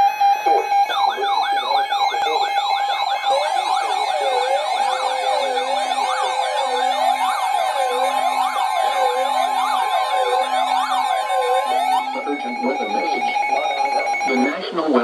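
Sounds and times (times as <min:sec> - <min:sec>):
low tone beeping: 0:00.0 - 0:14.6
siren-like alert sweep: 0:00.0 - 0:14.6
steady alert tone: 0:00.5 - 0:14.6.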